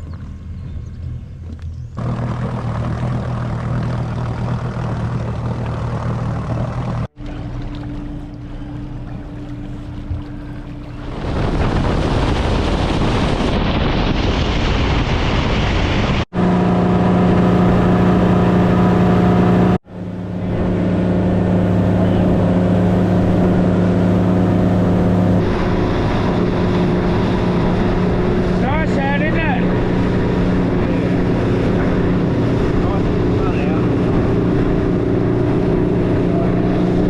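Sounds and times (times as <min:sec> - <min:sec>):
outboard motor droning: 0:00.0 - 0:13.6, 0:16.3 - 0:37.0
rush of wind and water: 0:03.3 - 0:37.0.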